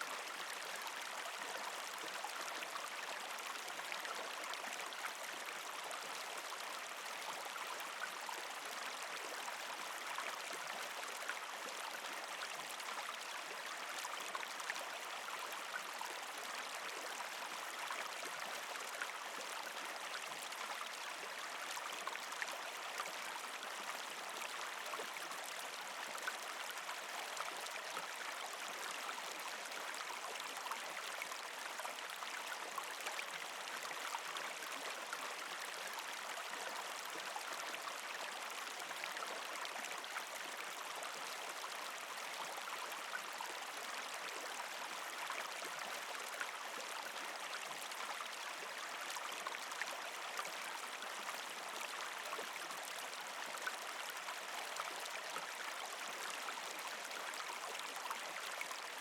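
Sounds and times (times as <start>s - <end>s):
creek water gurgling over rocks: 0.0s - 59.0s.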